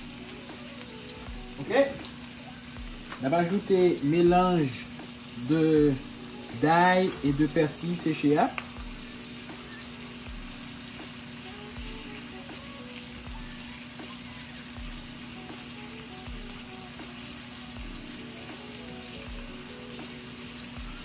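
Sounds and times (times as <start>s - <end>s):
potatoes sizzling in a skillet: 0.0s - 21.0s
quiet background music: 0.0s - 21.0s.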